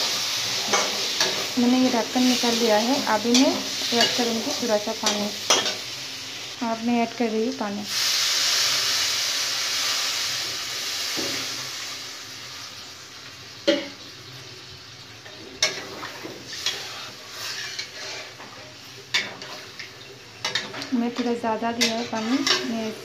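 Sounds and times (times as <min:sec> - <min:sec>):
water hissing in hot wok: 0:00.0 - 0:23.0.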